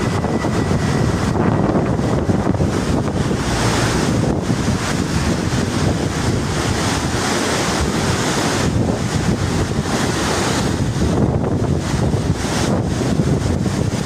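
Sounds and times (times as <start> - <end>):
river water rushing: 0.0 - 14.0
wind buffeting microphone: 0.0 - 14.0.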